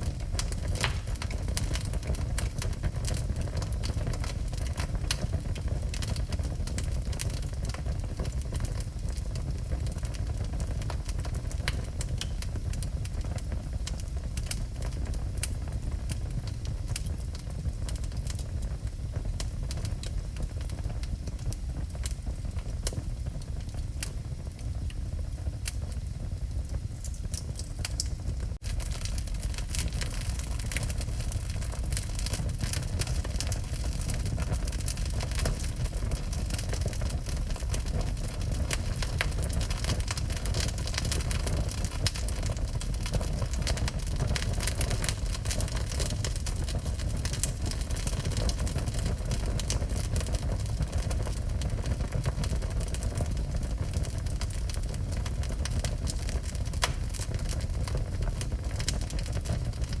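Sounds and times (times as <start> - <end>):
fire crackling and popping: 0.0 - 60.0.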